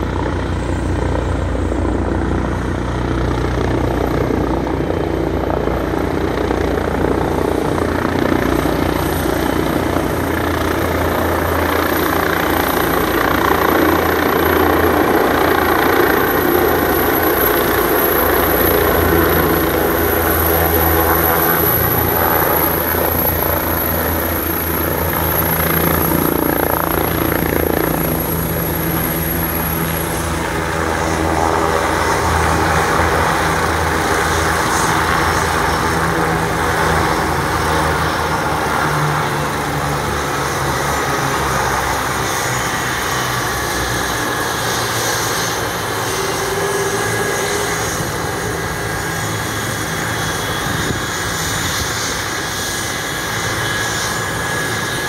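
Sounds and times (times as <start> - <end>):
helicopter idling: 0.0 - 55.0.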